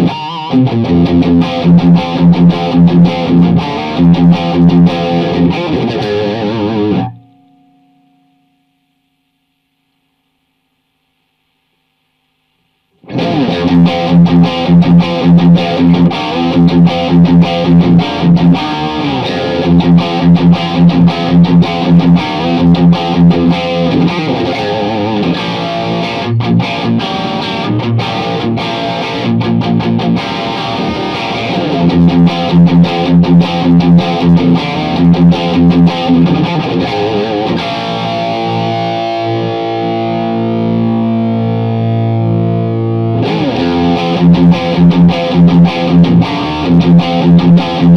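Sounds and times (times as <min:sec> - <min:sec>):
distorted electric guitar riff: 0:00.0 - 0:09.8, 0:12.8 - 0:47.9.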